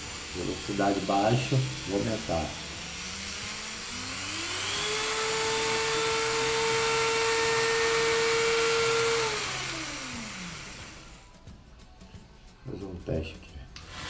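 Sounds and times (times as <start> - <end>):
rotary tool motor whine: 0.0 - 11.3, 13.8 - 14.0.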